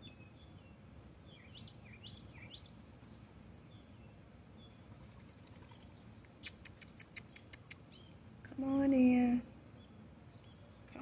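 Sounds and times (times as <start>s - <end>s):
bird chirps: 0.0s - 8.2s, 9.7s - 11.0s.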